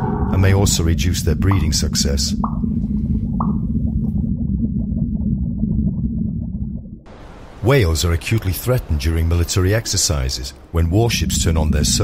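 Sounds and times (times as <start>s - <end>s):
crackling underwater rumble: 0.0s - 9.8s, 10.4s - 12.0s.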